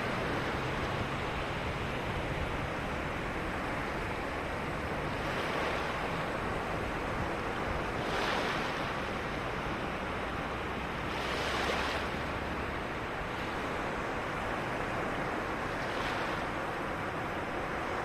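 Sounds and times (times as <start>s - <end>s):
ocean waves breaking on beach: 0.0s - 18.0s.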